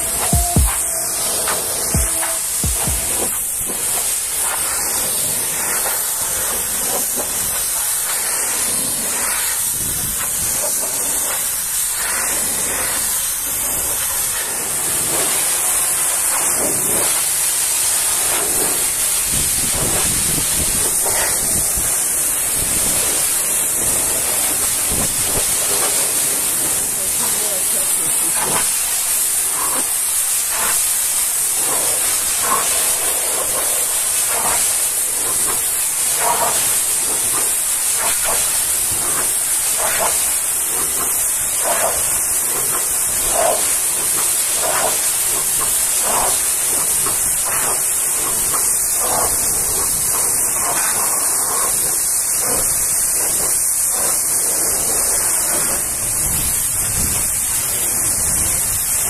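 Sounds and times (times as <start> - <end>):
pressure washer spraying metal: 0.0 - 59.0.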